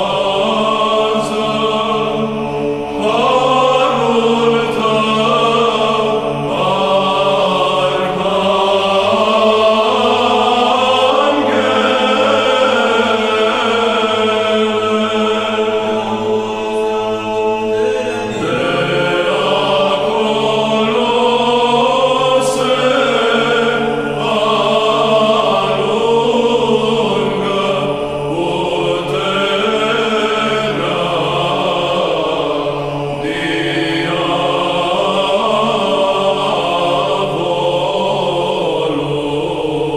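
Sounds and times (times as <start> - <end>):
choir chanting held notes: 0.0 - 39.9.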